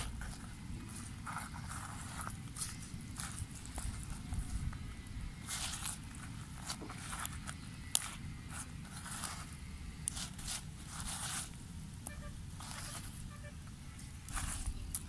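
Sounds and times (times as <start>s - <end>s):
soft scrapes: 0.0s - 4.7s, 5.4s - 11.6s, 12.2s - 15.0s
leaves rustling and crinkling: 0.0s - 15.0s.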